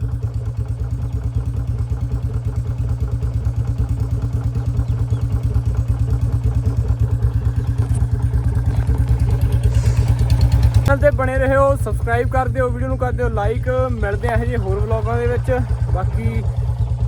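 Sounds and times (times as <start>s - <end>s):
motorcycles idling: 0.0s - 17.0s.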